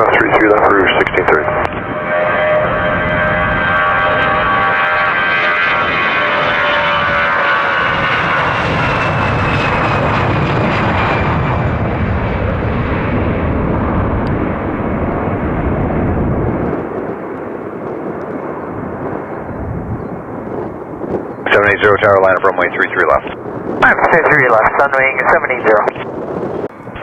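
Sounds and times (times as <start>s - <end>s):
jet airliner roar on takeoff: 0.0s - 27.0s.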